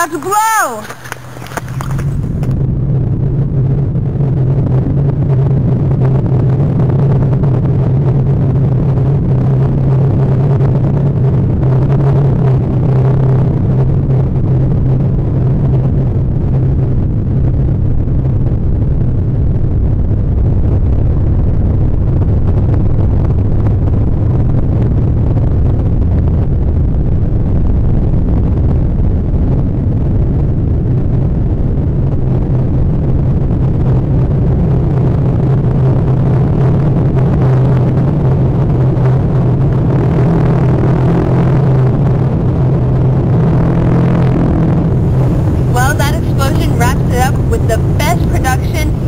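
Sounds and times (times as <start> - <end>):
deep hum: 0.0 - 49.0
loud low rumble: 0.0 - 49.0.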